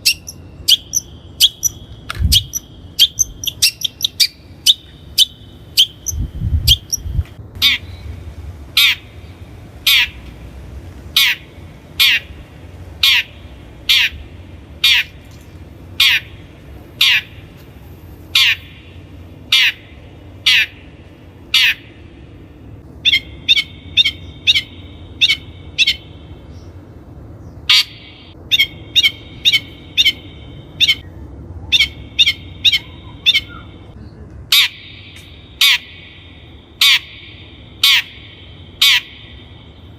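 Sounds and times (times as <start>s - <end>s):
bird harsh scolding calls: 0.0s - 10.2s, 11.1s - 12.4s, 13.0s - 15.2s, 15.9s - 17.5s, 18.3s - 22.0s, 23.0s - 26.2s, 27.6s - 31.0s, 31.7s - 33.9s, 34.5s - 39.6s.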